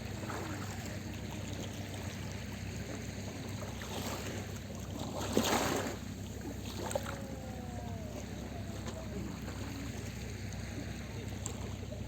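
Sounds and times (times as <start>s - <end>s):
small waves washing on beach: 0.0s - 12.0s
steady low hum: 0.0s - 12.0s.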